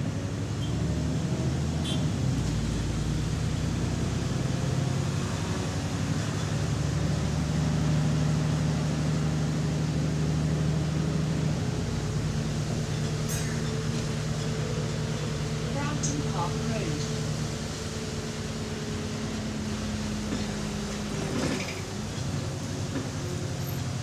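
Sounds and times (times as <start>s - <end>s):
diesel bus engine running: 0.0s - 24.0s.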